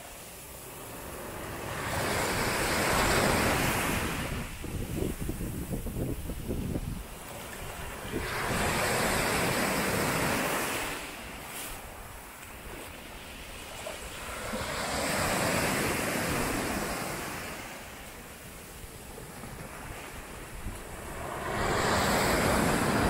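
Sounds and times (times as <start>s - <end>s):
sea waves breaking on beach: 0.0s - 23.0s
wind on microphone: 1.6s - 23.0s.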